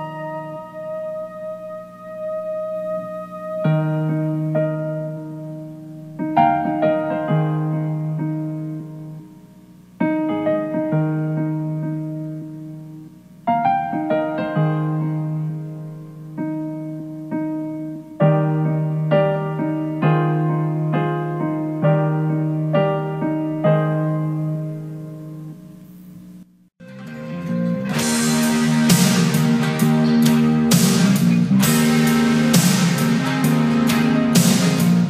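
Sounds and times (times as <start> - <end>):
slow gentle piano music: 0.0 - 25.8, 26.8 - 35.0.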